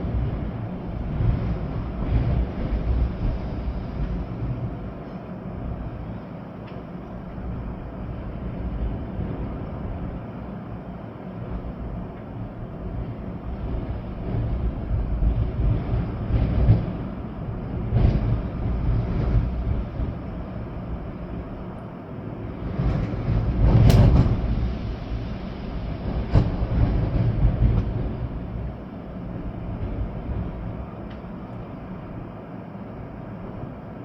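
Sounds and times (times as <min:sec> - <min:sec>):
rain: 0:00.0 - 0:34.0
storm wind gusting: 0:00.0 - 0:34.0.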